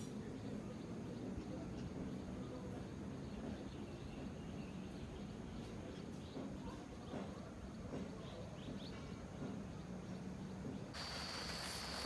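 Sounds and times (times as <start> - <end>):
distant bird chirps: 0.2 - 12.0.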